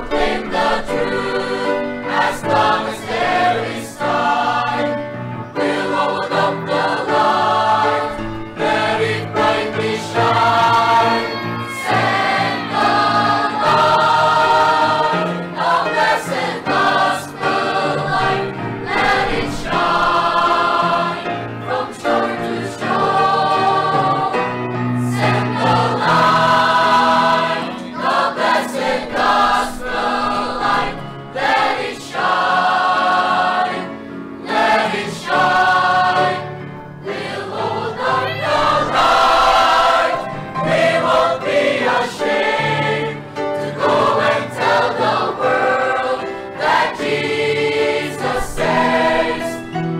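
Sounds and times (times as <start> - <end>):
children's choir singing a hymn: 0.0 - 49.9.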